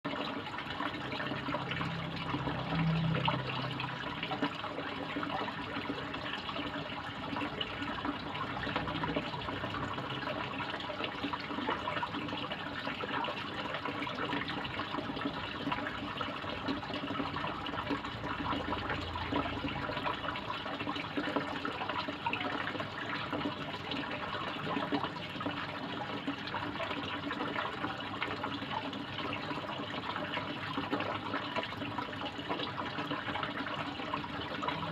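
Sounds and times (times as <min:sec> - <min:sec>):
pond water splashing and trickling: 0:00.0 - 0:34.9.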